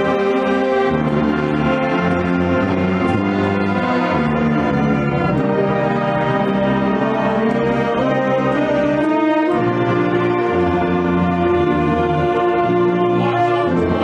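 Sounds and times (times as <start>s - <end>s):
marching band playing: 0.0s - 14.0s.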